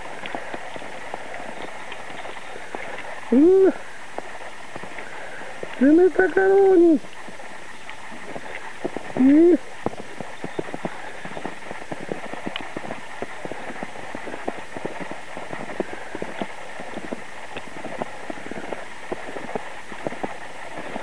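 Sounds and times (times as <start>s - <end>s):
faint steady hiss: 0.0s - 21.0s
footsteps crunching in snow: 0.0s - 21.0s.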